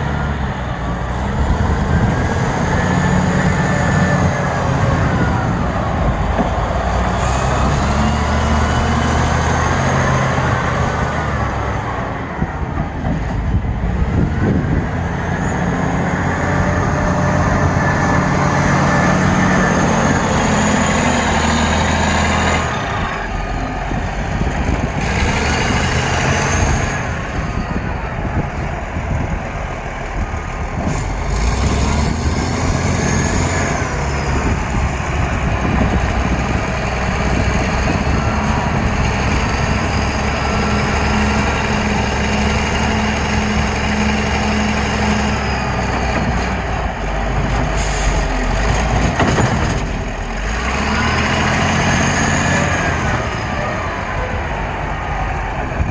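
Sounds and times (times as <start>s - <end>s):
diesel engine working: 0.0s - 55.9s.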